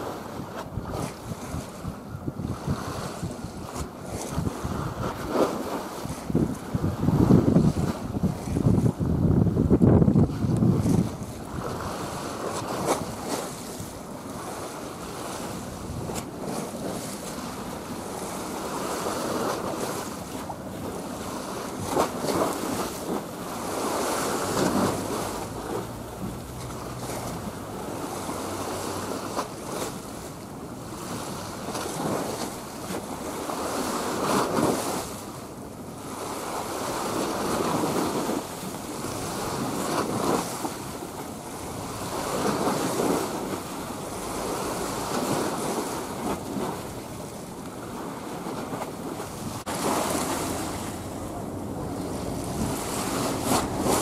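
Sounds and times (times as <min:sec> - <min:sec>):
waves washing along the shore: 0:00.0 - 0:54.0
wind buffeting the microphone: 0:00.0 - 0:54.0.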